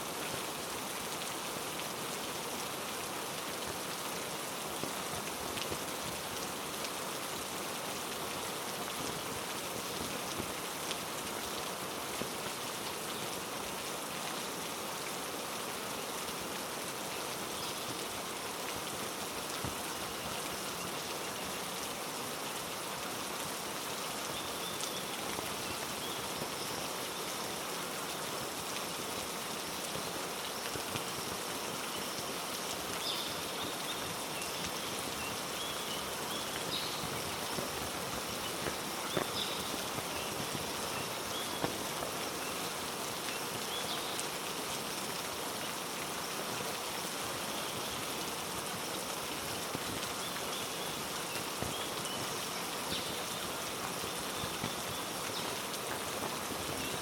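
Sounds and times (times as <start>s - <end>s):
heavy rain: 0.0s - 57.0s
individual raindrops: 0.0s - 57.0s.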